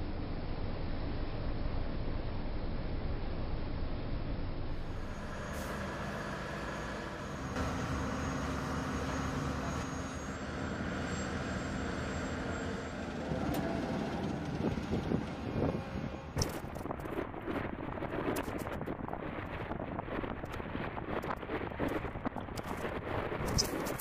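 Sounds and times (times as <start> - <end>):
engine and machinery rumble: 0.0 - 24.0.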